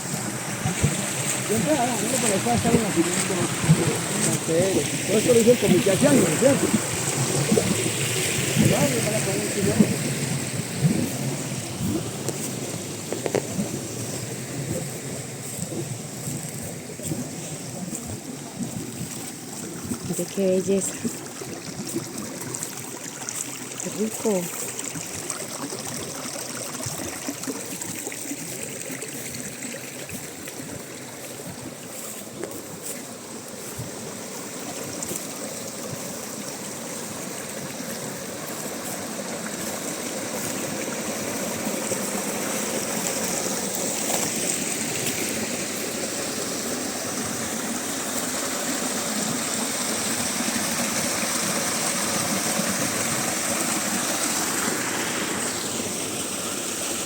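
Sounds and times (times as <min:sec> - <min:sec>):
spring water trickling: 0:00.0 - 0:57.0.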